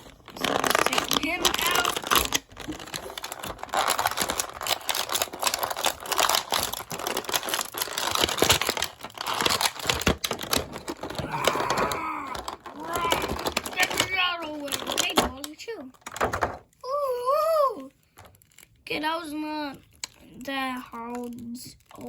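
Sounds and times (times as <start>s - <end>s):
toy packaging crinkling: 0.0s - 16.8s, 17.8s - 22.0s.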